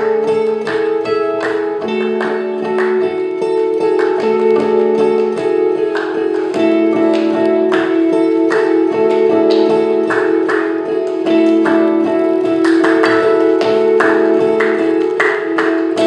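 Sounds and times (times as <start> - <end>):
acoustic guitars playing jazz: 0.0 - 16.0.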